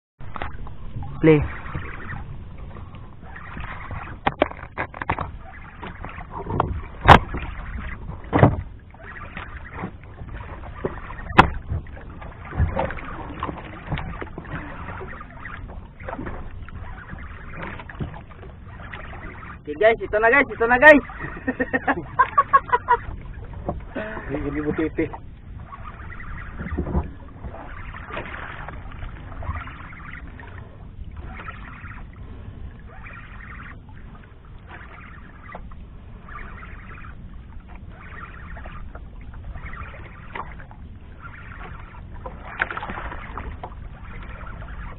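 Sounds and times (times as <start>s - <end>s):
water lapping against a hull: 0.2s - 44.9s.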